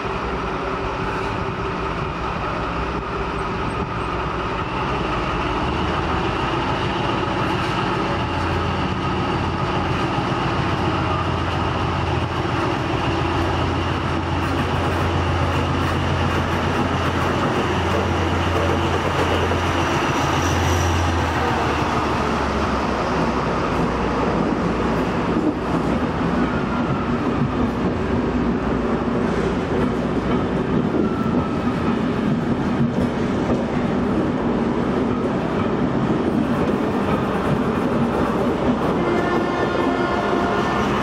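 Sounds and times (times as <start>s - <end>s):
train coaches rolling past: 0.0s - 41.0s
train engine hum: 0.0s - 41.0s.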